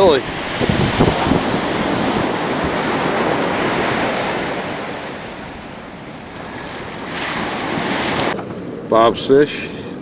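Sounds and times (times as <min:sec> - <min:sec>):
wind on microphone: 0:00.0 - 0:08.9
ocean surf washing on beach: 0:00.0 - 0:10.0.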